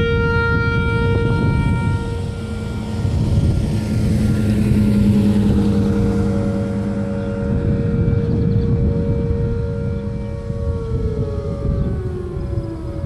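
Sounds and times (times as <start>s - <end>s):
lower siren tone: 0.0s - 13.0s
tornado siren steady tone: 0.0s - 13.0s
low steady rumble: 0.6s - 13.0s.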